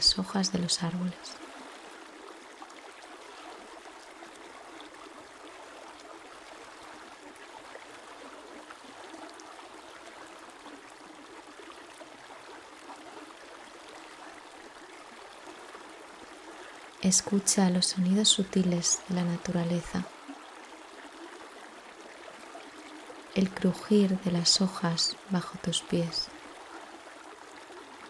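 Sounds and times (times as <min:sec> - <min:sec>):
stream flowing: 0:00.0 - 0:28.0.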